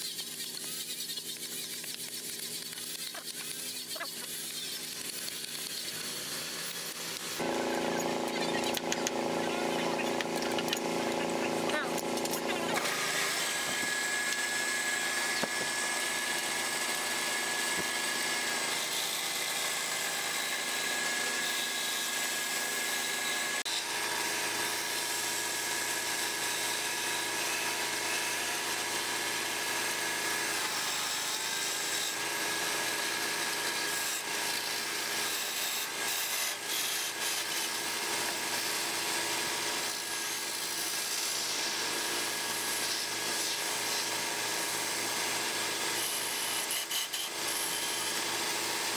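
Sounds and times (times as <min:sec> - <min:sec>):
chisel shaving wood: 0:00.0 - 0:48.9
wood lathe motor whine: 0:00.0 - 0:48.9.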